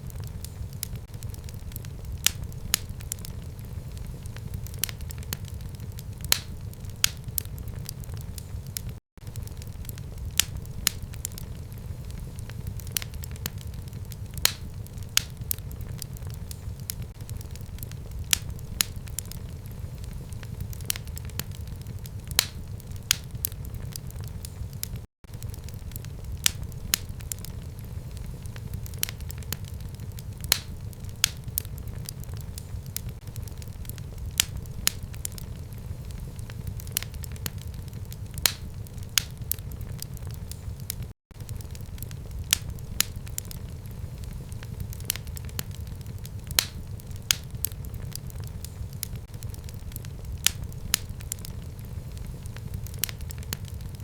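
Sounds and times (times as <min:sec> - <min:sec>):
fire crackling and popping: 0:00.0 - 0:54.0
low fire rumble: 0:00.0 - 0:54.0.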